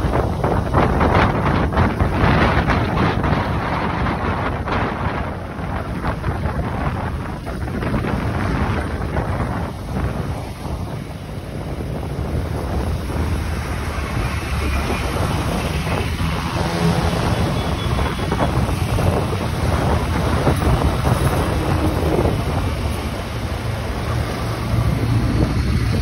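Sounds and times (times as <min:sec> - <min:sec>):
moving vehicle rumble: 0:00.0 - 0:26.0
wind buffeting microphone: 0:00.0 - 0:26.0.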